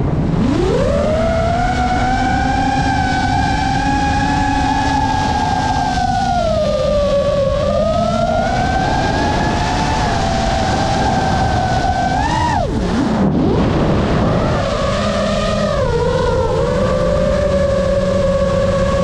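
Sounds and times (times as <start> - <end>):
drone motors whining: 0.0 - 19.0
wind rushing: 0.0 - 19.0.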